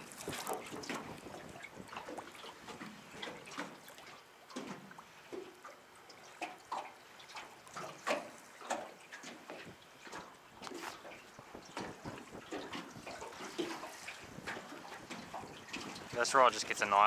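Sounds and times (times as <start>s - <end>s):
waves lapping against boat hull: 0.0s - 17.0s.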